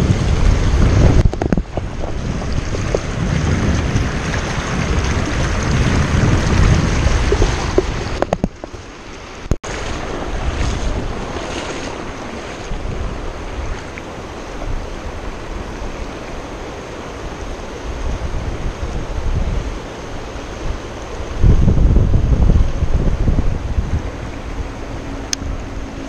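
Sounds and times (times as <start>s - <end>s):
river rapids rushing: 0.0s - 26.0s
water splashes: 0.0s - 26.0s
wind on microphone: 0.0s - 26.0s.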